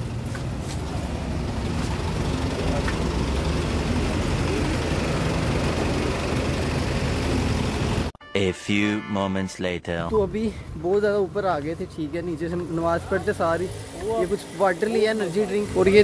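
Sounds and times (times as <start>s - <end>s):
vehicle engine idling: 0.0s - 8.1s, 10.2s - 16.0s
traffic noise: 0.0s - 8.2s, 10.1s - 16.0s.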